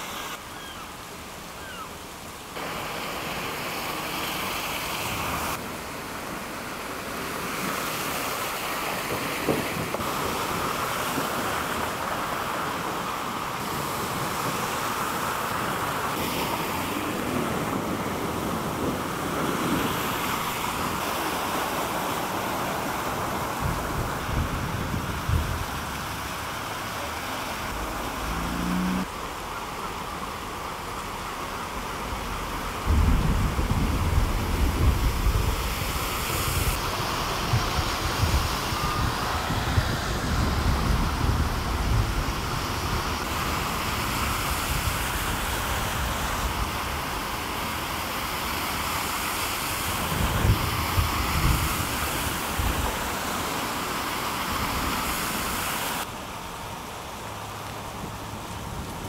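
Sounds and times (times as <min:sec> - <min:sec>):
cars sloshing through floodwater: 0:00.0 - 0:59.0
rain hiss: 0:00.0 - 0:59.0
running water: 0:00.0 - 0:59.0.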